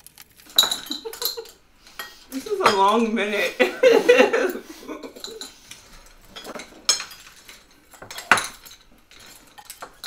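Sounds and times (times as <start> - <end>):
spoons clinking against bowls: 0.4 - 10.0.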